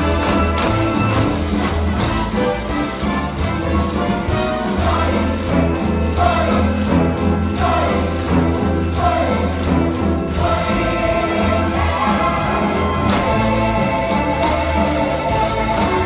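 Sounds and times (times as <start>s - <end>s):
orchestra playing: 0.0s - 16.0s.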